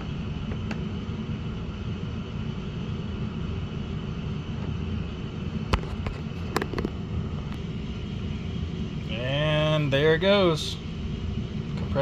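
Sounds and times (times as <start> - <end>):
air conditioner fan running: 0.0 - 12.0.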